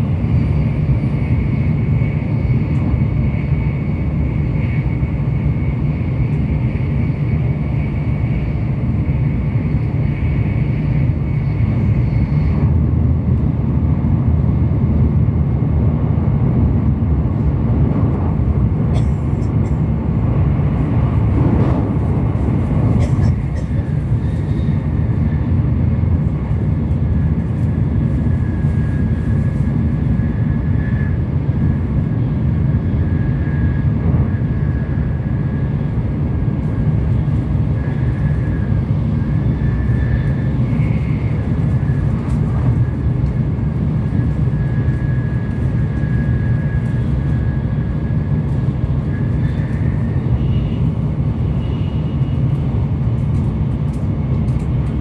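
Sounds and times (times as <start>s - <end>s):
train cabin rumble: 0.0s - 55.0s.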